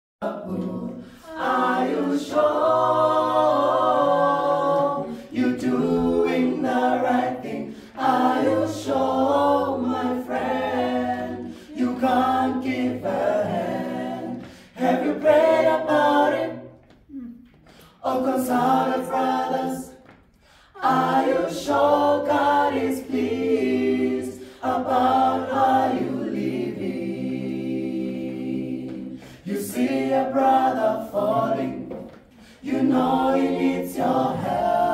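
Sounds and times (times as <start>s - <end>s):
choir singing a cappella: 0.2s - 34.9s.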